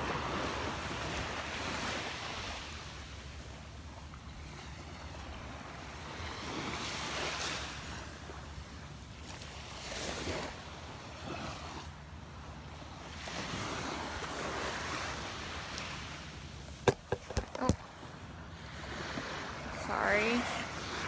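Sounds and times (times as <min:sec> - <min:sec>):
waves lapping at shoreline: 0:00.0 - 0:21.0.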